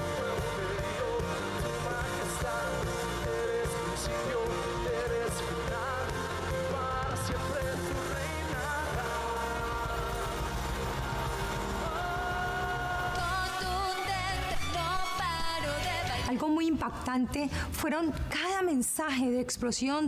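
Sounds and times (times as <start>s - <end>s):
band playing worship music: 0.0s - 16.1s
person singing: 0.0s - 16.4s.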